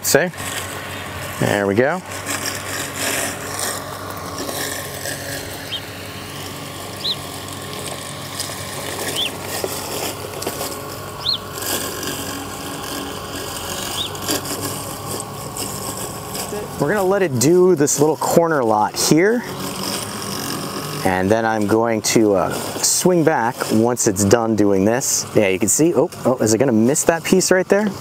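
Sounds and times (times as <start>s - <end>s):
robotic lawn mower humming: 0.0s - 28.0s.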